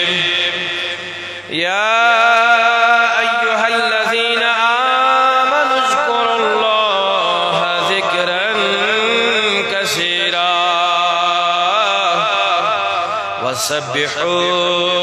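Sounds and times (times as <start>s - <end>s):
man chanting through a microphone: 0.0s - 15.0s.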